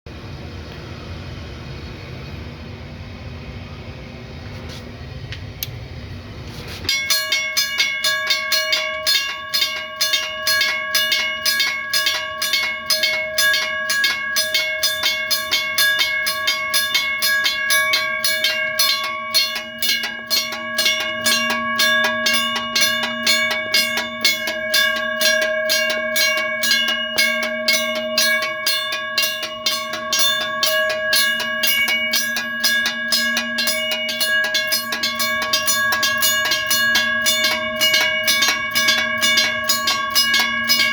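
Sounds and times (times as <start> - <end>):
railroad crossing bells ringing: 6.6 - 40.9.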